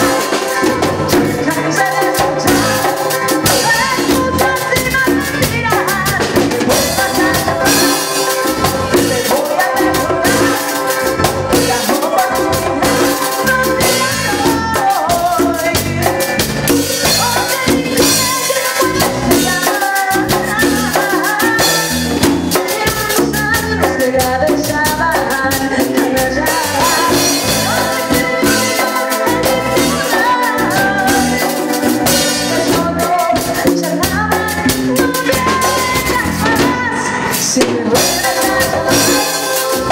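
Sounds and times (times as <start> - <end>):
band music with drum beat: 0.0 - 39.9.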